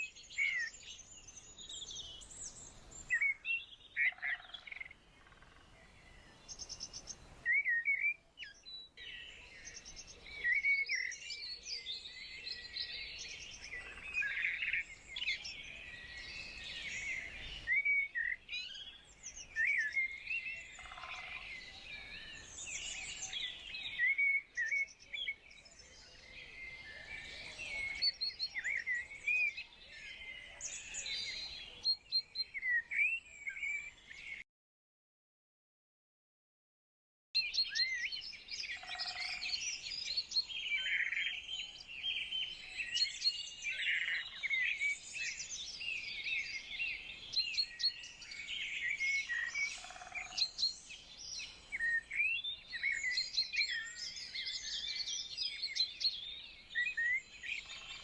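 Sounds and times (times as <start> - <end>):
songbirds chirping and trilling: 0.0 - 34.4, 37.4 - 58.0.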